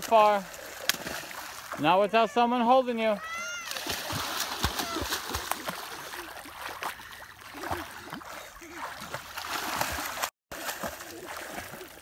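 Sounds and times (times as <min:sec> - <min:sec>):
children splashing in water: 0:00.0 - 0:12.0
water sloshing: 0:00.0 - 0:12.0.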